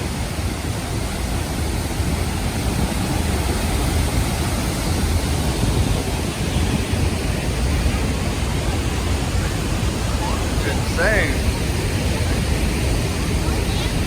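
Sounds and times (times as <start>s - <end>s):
waterfall crashing: 0.0s - 14.0s.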